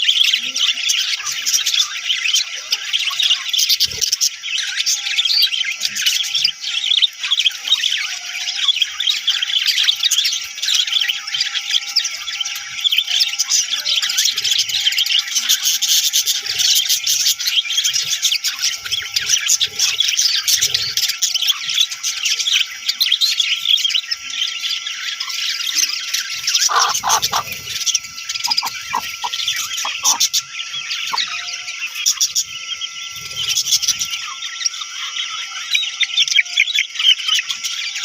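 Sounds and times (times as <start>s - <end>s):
budgerigars chirping: 0.0s - 37.8s.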